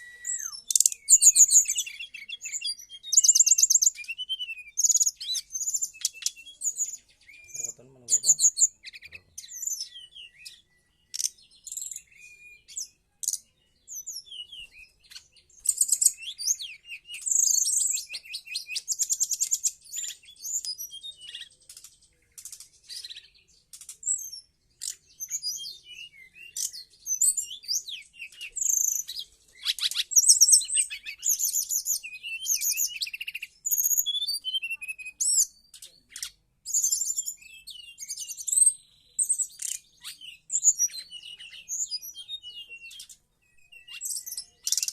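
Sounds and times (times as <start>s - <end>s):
bird singing chirps and trills: 0.0s - 44.9s.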